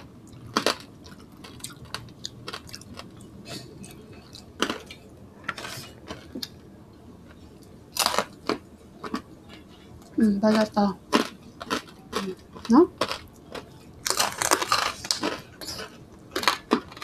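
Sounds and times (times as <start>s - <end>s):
food crackles: 0.0s - 17.0s
people chewing and smacking: 0.0s - 17.0s.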